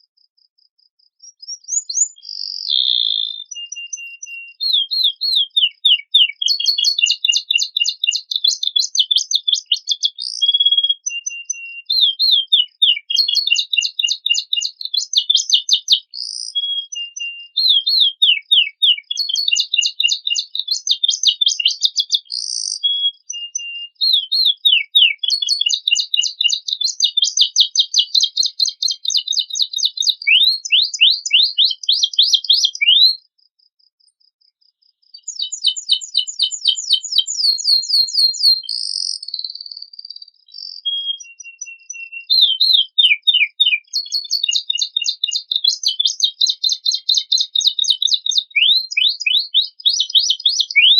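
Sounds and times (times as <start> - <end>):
canary singing trills: 1.2 - 33.3, 35.0 - 50.9.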